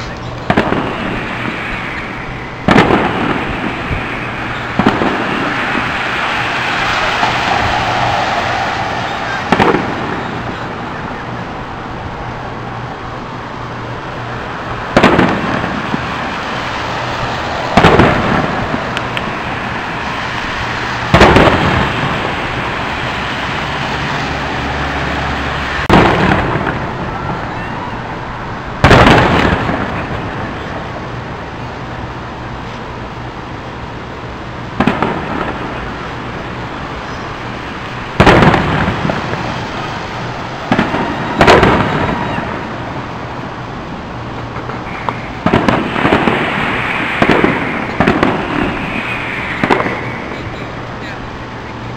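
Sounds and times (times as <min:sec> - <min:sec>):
fireworks bursting with echo: 0:00.0 - 0:51.9.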